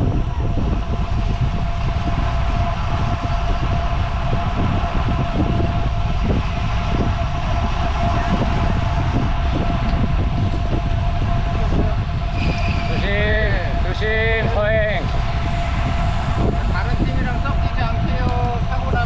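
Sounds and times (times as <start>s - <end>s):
bicycle tyre rolling noise: 0.0s - 19.0s
thin constant whine: 0.0s - 19.0s
wind buffeting microphone: 0.0s - 19.0s.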